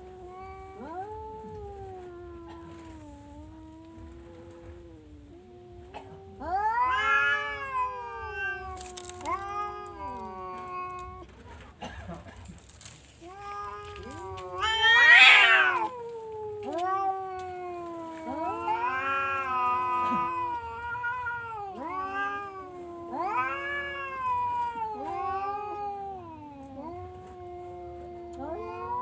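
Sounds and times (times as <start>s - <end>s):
cat yowling: 0.0s - 11.2s, 13.2s - 29.0s.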